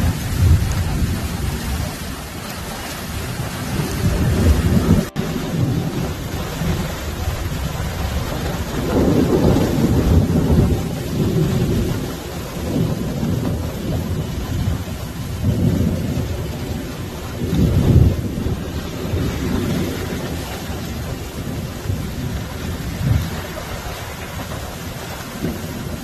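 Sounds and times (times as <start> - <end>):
heavy rain hissing: 0.0 - 26.0
rolling thunder: 0.0 - 26.0.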